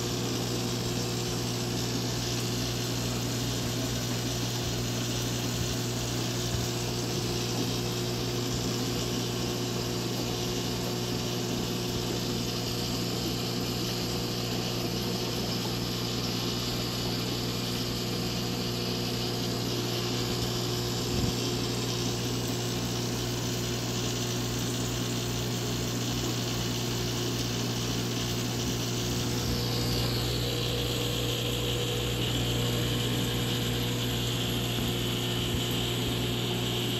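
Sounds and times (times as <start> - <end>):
aquarium filter hiss: 0.0 - 36.9
aquarium pump humming: 0.0 - 36.9.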